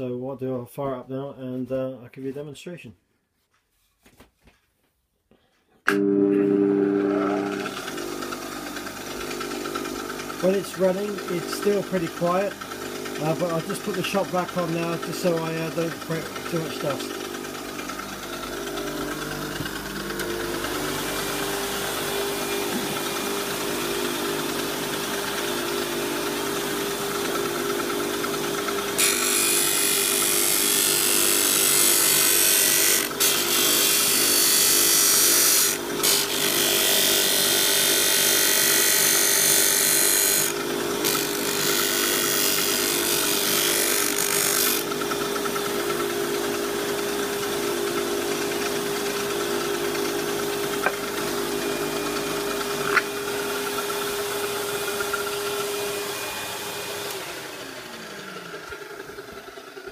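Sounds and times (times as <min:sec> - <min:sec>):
disc sander running: 0:05.9 - 0:59.9
shop vac running: 0:05.9 - 0:59.9
workpiece grinding on sanding disc: 0:07.0 - 0:59.9.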